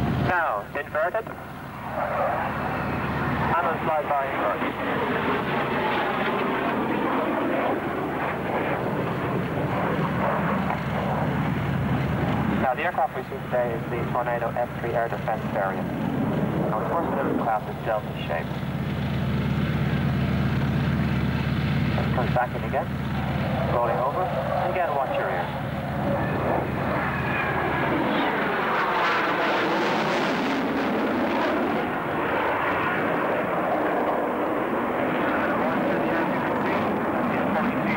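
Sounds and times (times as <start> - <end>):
jet fighter roar: 0.0 - 37.9.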